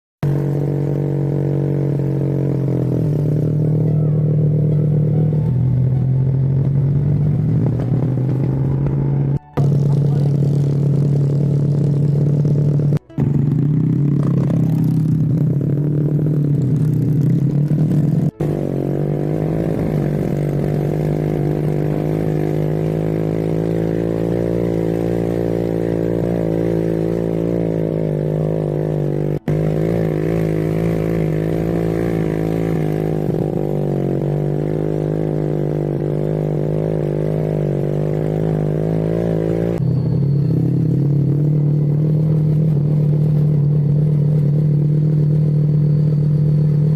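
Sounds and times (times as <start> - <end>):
motorbike engine running: 0.2 - 46.9.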